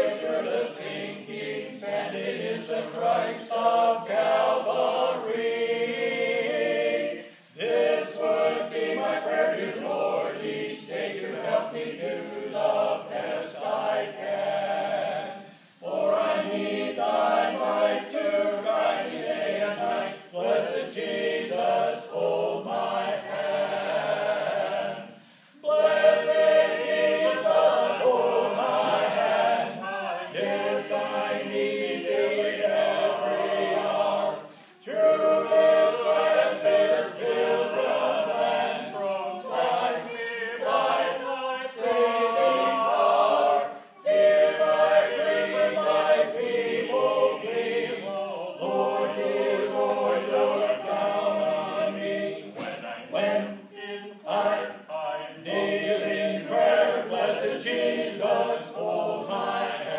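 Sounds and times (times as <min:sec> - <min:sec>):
a cappella ensemble singing: 0:00.0 - 0:59.9.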